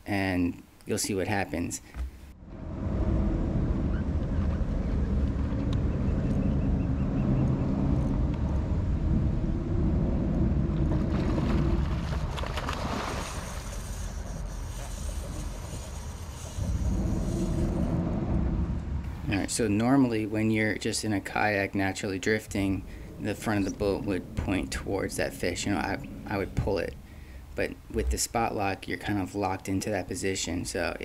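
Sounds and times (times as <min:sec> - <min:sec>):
wind buffeting microphone: 0:02.4 - 0:28.6.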